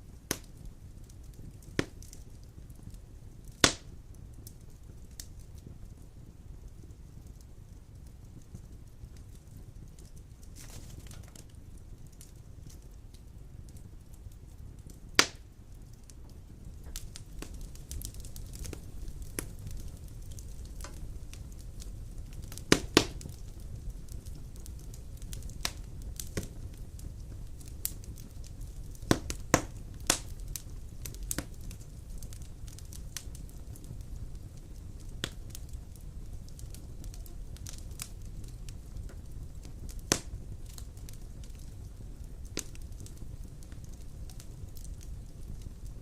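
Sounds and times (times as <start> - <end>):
burning logs crackling and popping: 0.0 - 46.0
low rumble of flames: 0.0 - 46.0.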